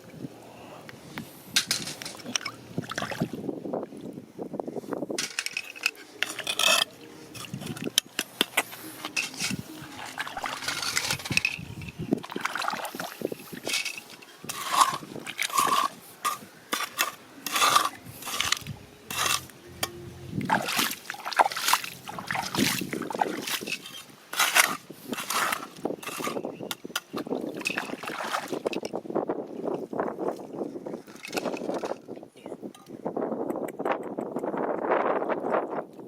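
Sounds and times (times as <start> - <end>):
water splashing and sloshing: 0.0 - 4.2, 4.9 - 32.3.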